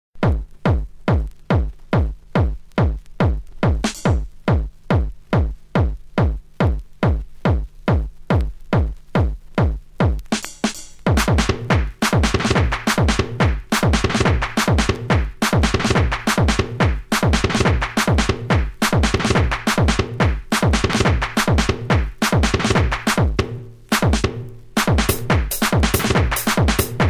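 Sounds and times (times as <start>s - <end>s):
drum machine kick drum: 0.2s - 27.0s
fast hi-hat percussion: 0.2s - 27.0s.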